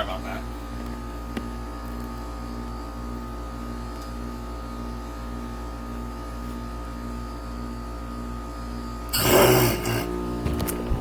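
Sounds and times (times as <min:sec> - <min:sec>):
heat pump compressor and fan hum: 0:00.0 - 0:11.0.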